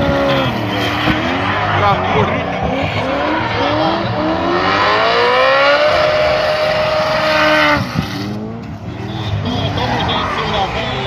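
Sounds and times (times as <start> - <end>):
car engines at high revs: 0.0 - 11.0.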